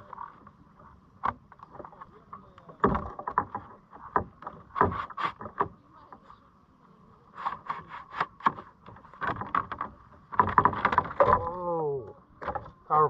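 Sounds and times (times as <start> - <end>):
knocks and scrapes in kayak: 0.0 - 6.5, 7.2 - 13.0.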